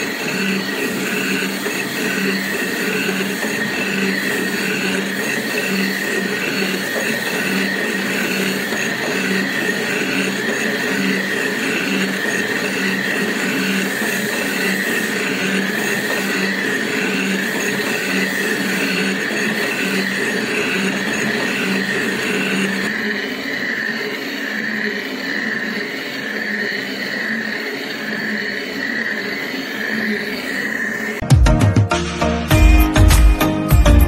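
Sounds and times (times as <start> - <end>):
boring bar cutting steel: 0.0 - 31.2
high machining whine: 0.0 - 31.2.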